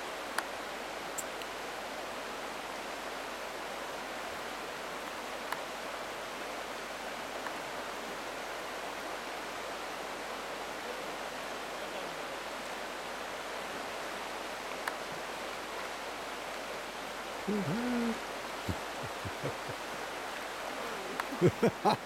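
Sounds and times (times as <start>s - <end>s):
river rapids rushing over rocks: 2.9s - 22.0s.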